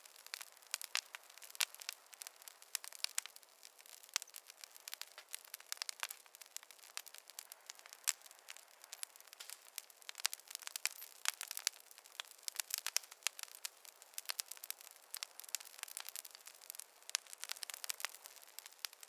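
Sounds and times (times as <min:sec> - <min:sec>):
campfire crackling and popping: 0:00.0 - 0:19.0
faint fire hiss: 0:00.0 - 0:19.0.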